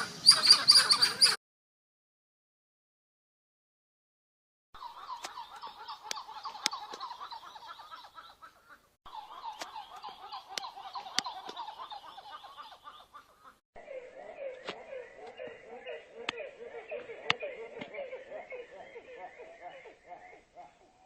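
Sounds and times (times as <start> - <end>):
monkeys chirping: 0.0 - 1.4, 4.8 - 8.5, 9.1 - 21.0.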